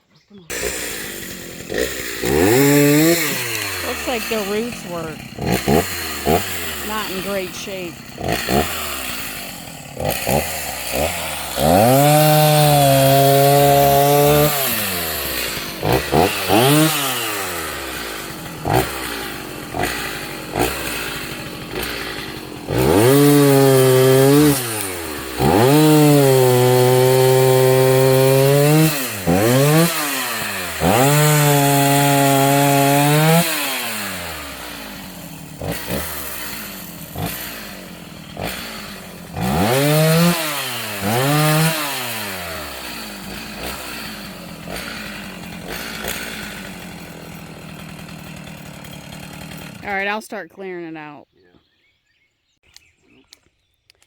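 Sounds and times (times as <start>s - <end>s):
chainsaw cutting wood: 0.5s - 50.9s.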